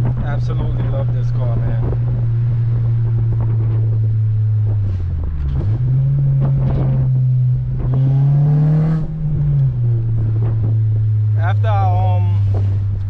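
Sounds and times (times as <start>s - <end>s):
car engine and exhaust droning: 0.0s - 13.0s.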